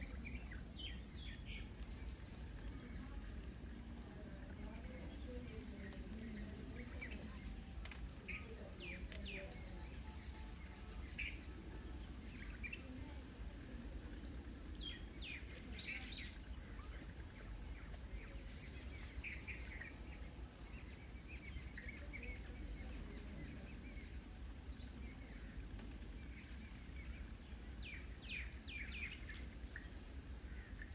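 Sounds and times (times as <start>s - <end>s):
faint low rumble: 0.0s - 30.9s
small birds chirping: 0.0s - 30.9s.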